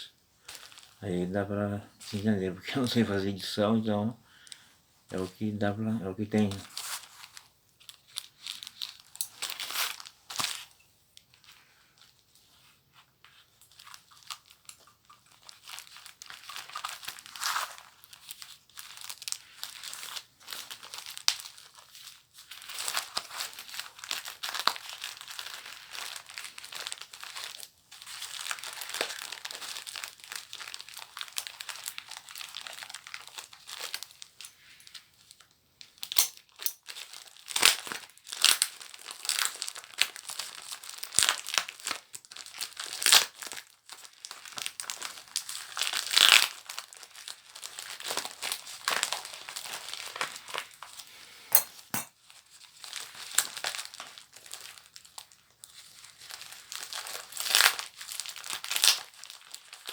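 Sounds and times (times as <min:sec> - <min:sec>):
packaging crinkling and tearing: 0:00.4 - 0:01.3, 0:06.2 - 0:10.7, 0:13.4 - 0:51.1, 0:52.3 - 0:59.9.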